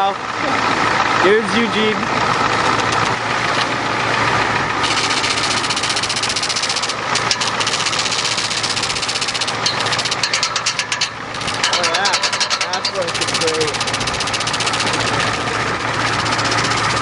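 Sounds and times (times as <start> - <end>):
truck engine running: 0.0 - 17.0
fast ticking clatter: 2.2 - 3.5, 4.2 - 17.0.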